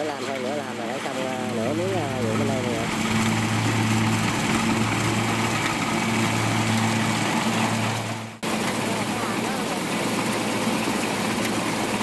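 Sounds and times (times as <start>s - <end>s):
combine harvester engine drone: 0.4s - 12.0s.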